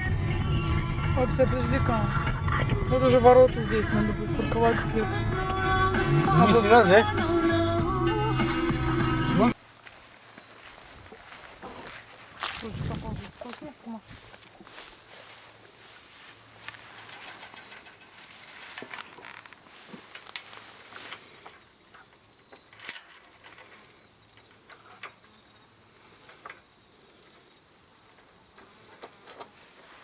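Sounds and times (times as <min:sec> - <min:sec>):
hissing insect chorus: 0:00.0 - 0:30.0.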